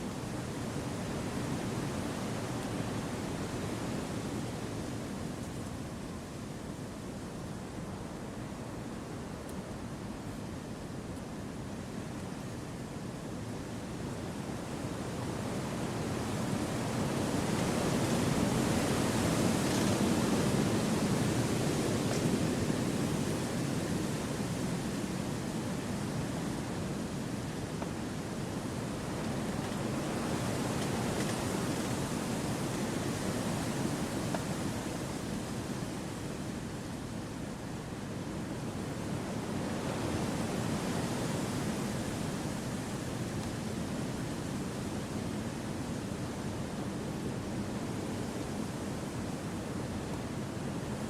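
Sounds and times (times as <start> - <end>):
wind through forest trees: 0.0 - 51.0.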